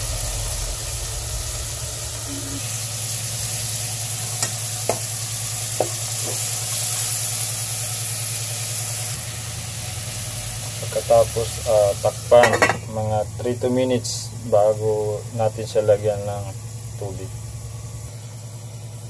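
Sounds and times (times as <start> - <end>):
chicken sizzling in a pot: 0.0 - 19.0.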